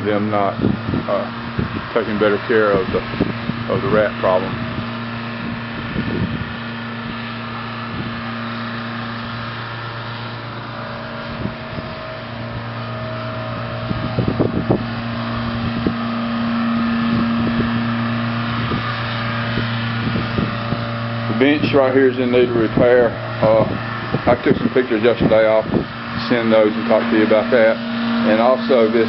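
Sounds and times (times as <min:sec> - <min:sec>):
steady motor hum: 0:00.0 - 0:29.0.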